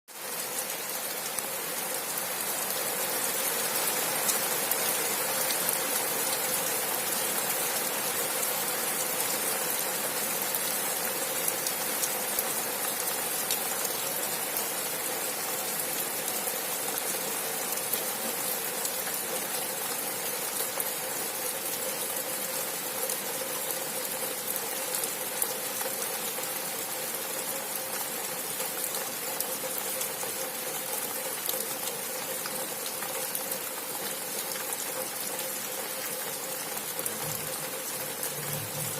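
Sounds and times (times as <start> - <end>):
raindrops ticking on surfaces: 0.1 - 38.9
steady rain hiss: 0.1 - 38.9.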